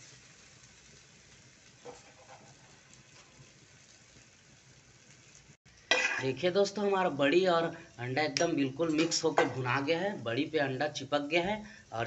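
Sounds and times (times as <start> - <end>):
food frying in oil: 0.0 - 12.0.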